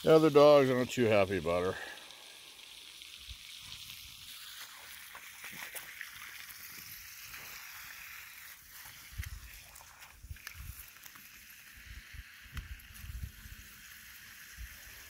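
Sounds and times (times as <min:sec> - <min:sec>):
garden hose spraying water: 0:00.0 - 0:15.0.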